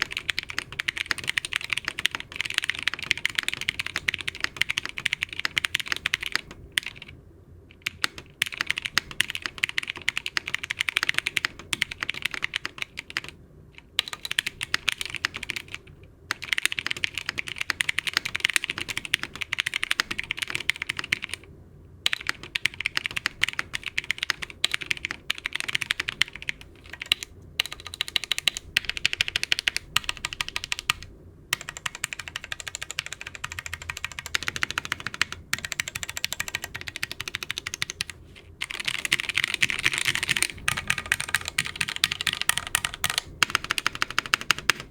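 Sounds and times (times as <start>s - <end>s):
mechanical keyboard typing: 0.0s - 21.4s, 22.1s - 44.9s.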